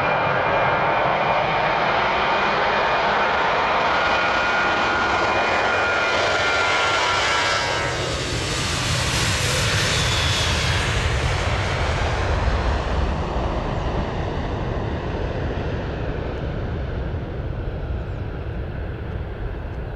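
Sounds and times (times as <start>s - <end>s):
jet engines passing by: 0.0s - 19.9s.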